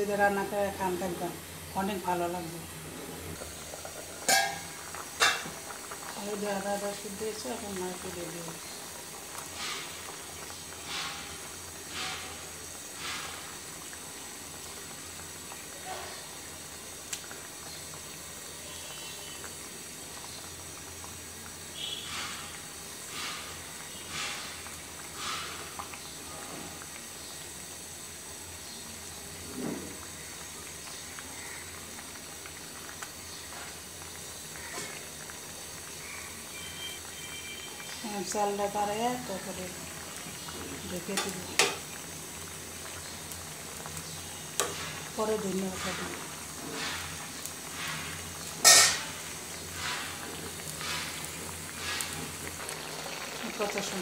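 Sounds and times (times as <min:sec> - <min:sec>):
curry simmering with hiss: 0:00.0 - 0:54.0.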